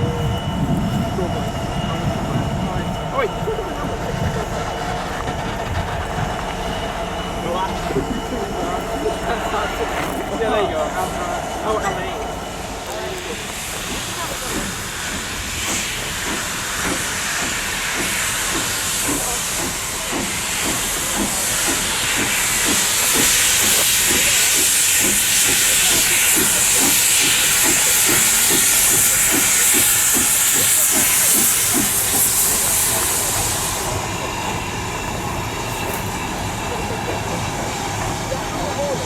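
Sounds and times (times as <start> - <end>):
steam locomotive hissing: 0.0 - 39.0.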